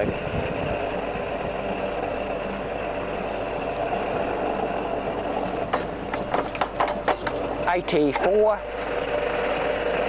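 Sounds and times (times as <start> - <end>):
radial arm drill humming: 0.0 - 10.0.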